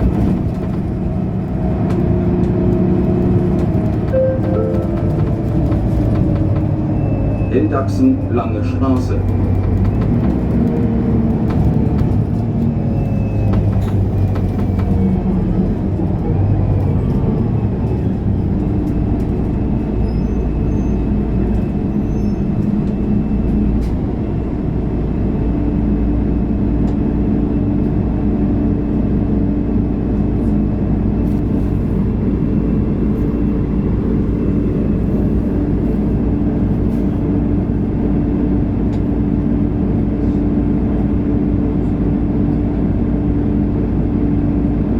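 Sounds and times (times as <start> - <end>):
city bus engine running: 0.0 - 44.9.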